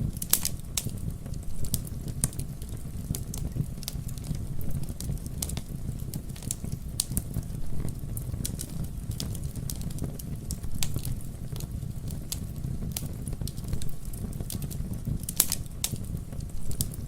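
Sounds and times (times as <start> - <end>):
campfire crackles and pops: 0.0 - 17.0
flames rumbling: 0.0 - 17.0.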